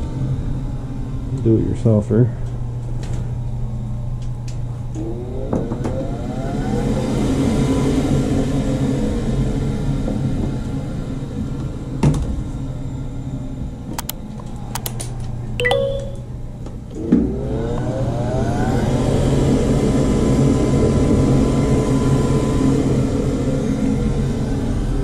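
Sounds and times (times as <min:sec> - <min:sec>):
furnace motor whine: 0:00.0 - 0:15.6, 0:16.3 - 0:25.0.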